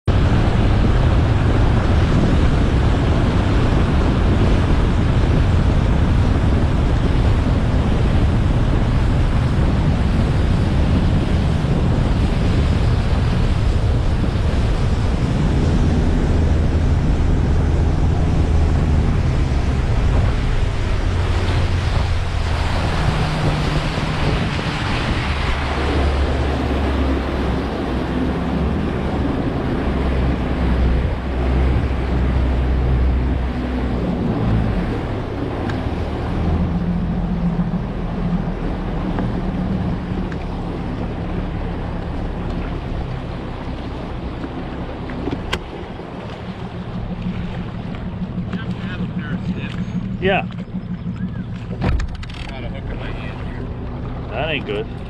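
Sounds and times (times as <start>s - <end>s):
outboard motor droning: 0.0s - 55.0s
rushing water: 0.0s - 55.0s
wind buffeting microphone: 0.0s - 55.0s.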